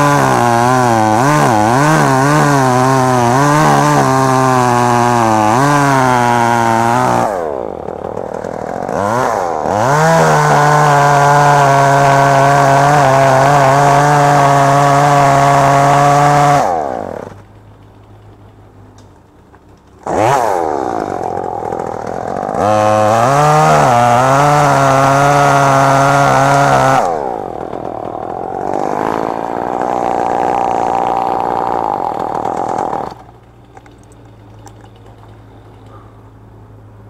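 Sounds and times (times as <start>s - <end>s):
chainsaw engine revving: 0.0s - 17.4s, 20.0s - 35.9s.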